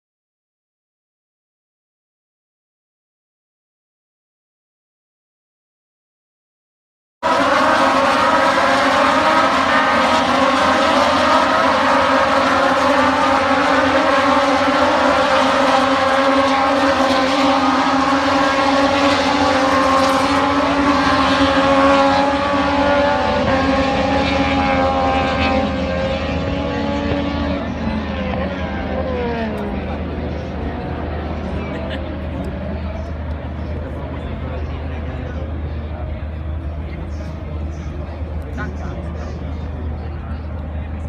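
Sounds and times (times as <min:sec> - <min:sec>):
racing motorcycle engines: 0:07.2 - 0:41.0.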